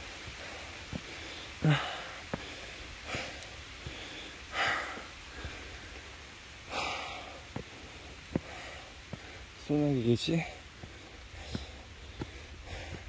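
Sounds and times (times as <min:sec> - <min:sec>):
faint footsteps: 0:00.0 - 0:13.0
light rain patter: 0:00.0 - 0:13.0.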